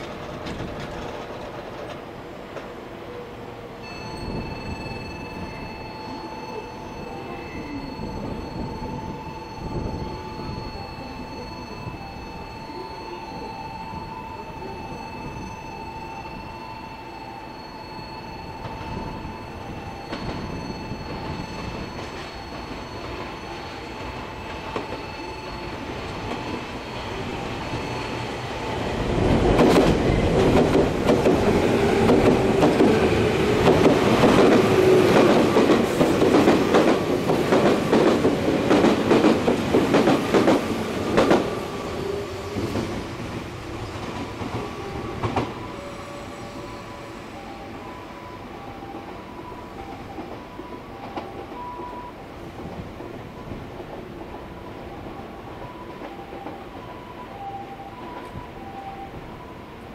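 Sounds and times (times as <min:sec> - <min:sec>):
train passing: 0:00.0 - 0:59.9.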